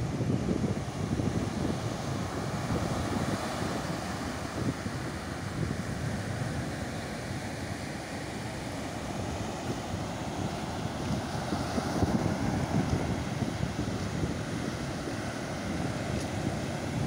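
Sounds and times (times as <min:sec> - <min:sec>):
waves washing up a beach: 0:00.0 - 0:17.0
wind buffeting microphone: 0:00.0 - 0:17.0.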